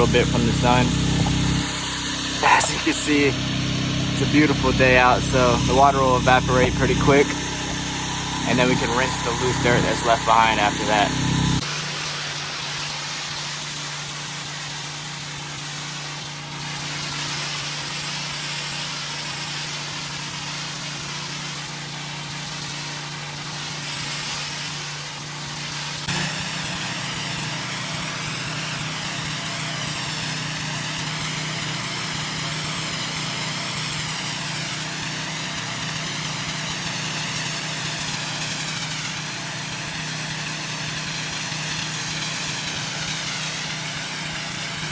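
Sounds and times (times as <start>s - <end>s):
pressure washer engine running: 0.0s - 44.9s
water spray hissing on concrete: 0.0s - 44.9s.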